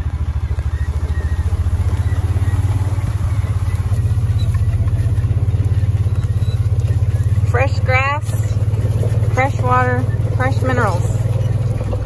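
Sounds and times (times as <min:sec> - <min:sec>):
vehicle engine putter: 0:00.0 - 0:12.0.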